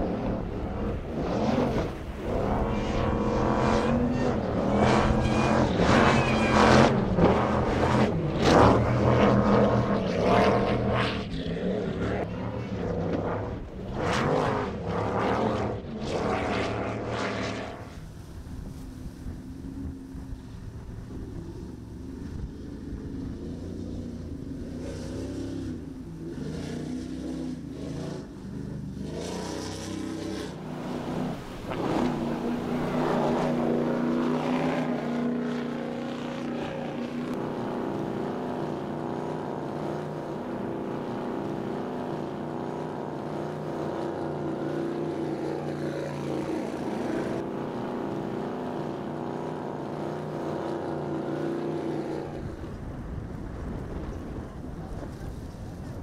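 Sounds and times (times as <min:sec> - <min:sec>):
powerboat engines running hard: 0:00.0 - 0:56.0.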